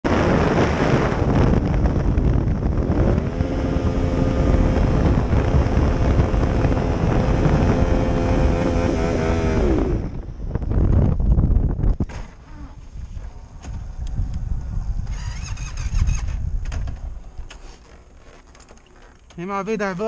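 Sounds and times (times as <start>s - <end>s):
motorcycle engine revving high: 0.0s - 19.1s
wind buffeting microphone: 0.1s - 19.4s.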